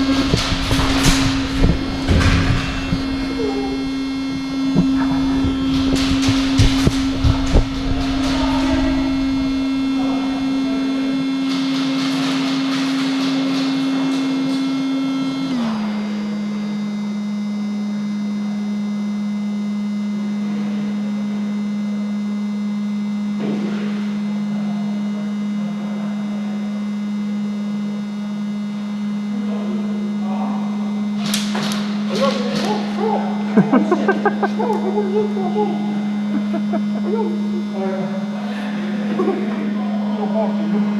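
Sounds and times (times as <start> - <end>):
small fan buzzing: 0.0 - 40.9.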